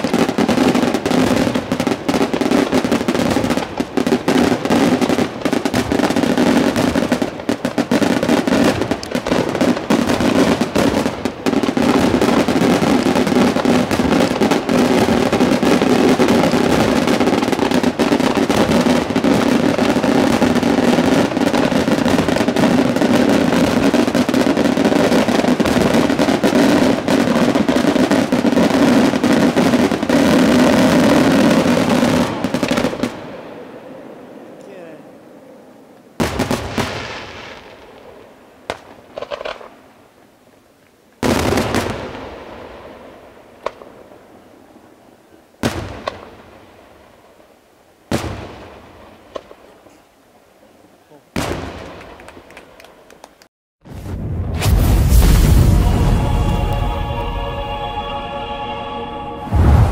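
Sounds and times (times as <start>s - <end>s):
fireworks bursting and crackling: 0.0s - 58.7s, 59.4s - 59.9s.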